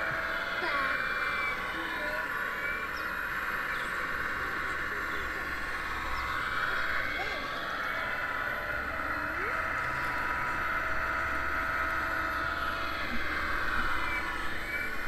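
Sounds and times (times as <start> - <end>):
low hum: 0.0 - 15.0
model machine motor whine: 0.0 - 15.0.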